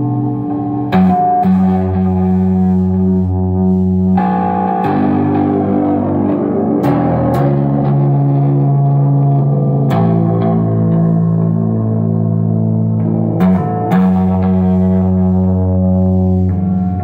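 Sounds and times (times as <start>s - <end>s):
distorted bass guitar notes: 0.0s - 17.0s.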